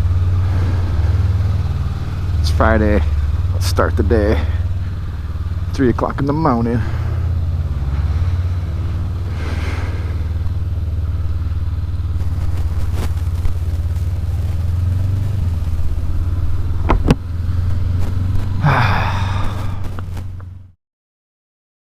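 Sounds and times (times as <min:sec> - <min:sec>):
motorcycle engine running low revs: 0:00.0 - 0:20.8.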